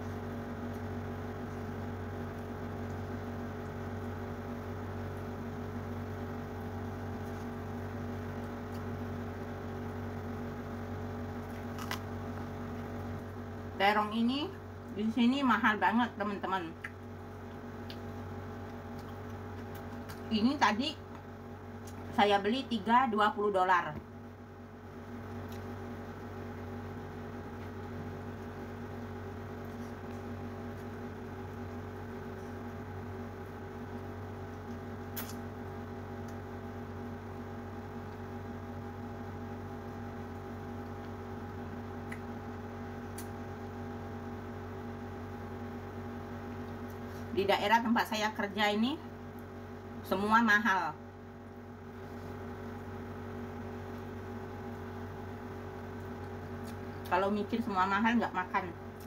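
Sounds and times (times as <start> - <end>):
machine hum with held tones: 0.0 - 59.0.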